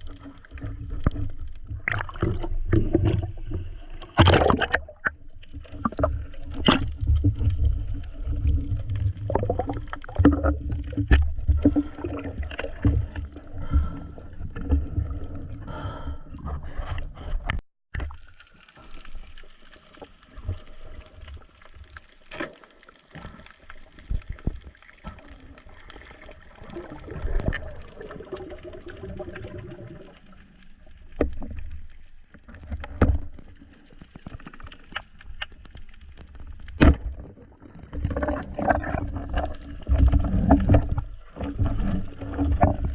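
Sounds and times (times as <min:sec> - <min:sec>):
water sloshing and gurgling: 0:00.0 - 0:42.9.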